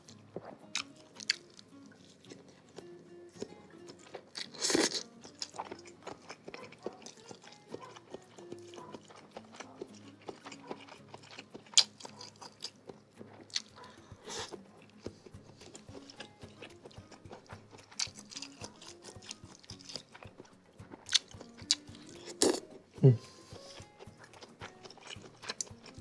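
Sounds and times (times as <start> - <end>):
faint background music: 0.0 - 26.0
chewing with wet mouth clicks: 0.1 - 22.8, 23.5 - 26.0
food crunches and slurps: 0.4 - 2.4, 3.9 - 22.7, 23.6 - 26.0.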